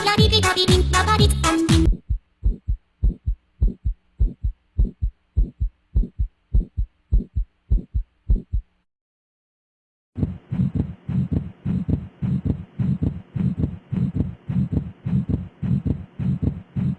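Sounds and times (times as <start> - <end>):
heartbeat thumps: 1.8 - 8.9, 10.2 - 16.9.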